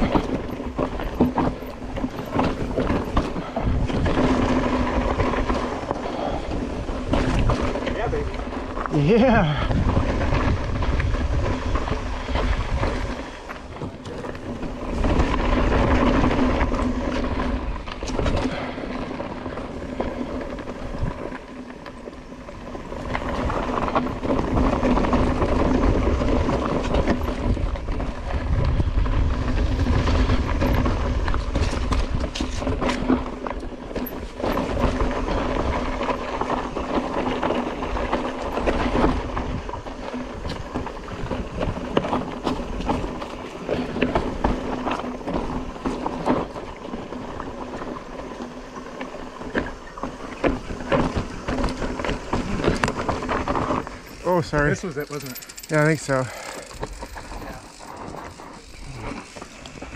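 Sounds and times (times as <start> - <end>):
mountain bike rattling downhill: 0.0 - 59.9.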